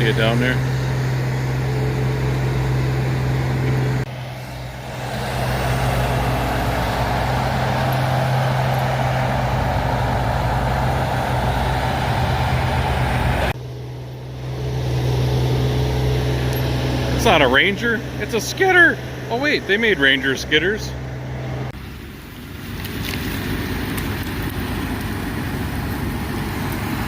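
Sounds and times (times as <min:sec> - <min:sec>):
heavy engine droning: 0:00.0 - 0:27.0.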